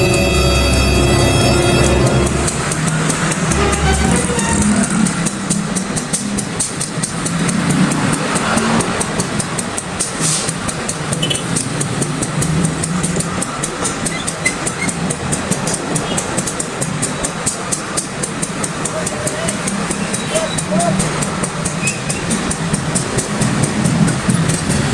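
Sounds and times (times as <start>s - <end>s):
fast even ticking: 0.0s - 24.9s
locomotive engine hum: 0.0s - 24.9s.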